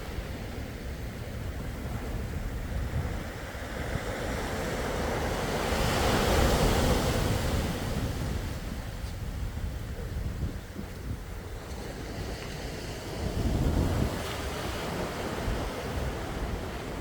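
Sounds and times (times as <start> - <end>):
sea waves washing on shore: 0.0 - 17.0
wind on microphone: 0.0 - 17.0.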